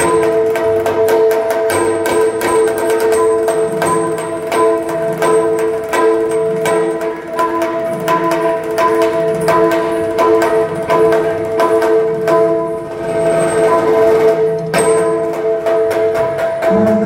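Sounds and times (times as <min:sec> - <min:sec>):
bright metallic strikes: 0:00.0 - 0:17.0
hand-played barrel drum: 0:00.0 - 0:17.0.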